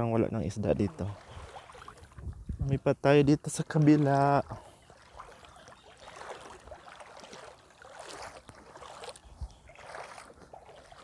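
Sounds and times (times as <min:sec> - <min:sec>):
seawater lapping among rocks: 0:00.6 - 0:11.0.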